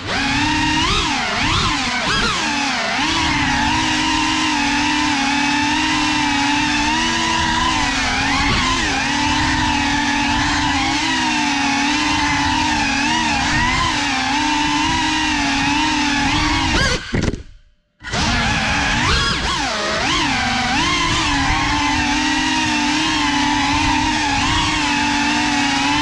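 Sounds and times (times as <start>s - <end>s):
drone propellers whining: 0.0s - 17.4s, 18.0s - 26.0s.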